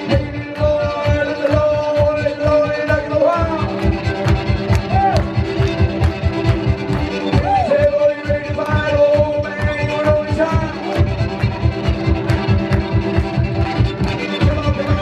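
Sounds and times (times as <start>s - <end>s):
stomped beat: 0.0s - 15.0s.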